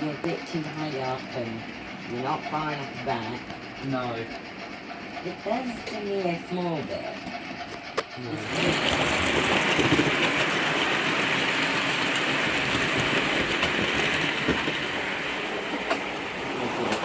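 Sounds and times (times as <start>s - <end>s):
model train rattling on track: 0.0s - 17.0s.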